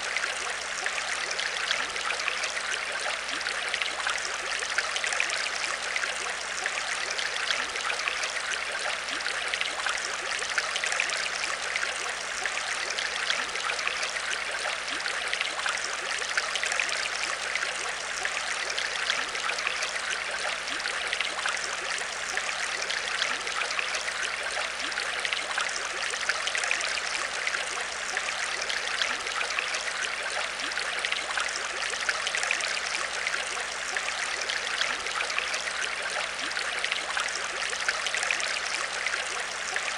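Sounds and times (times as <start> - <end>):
aquarium water trickling and bubbling: 0.0 - 39.9.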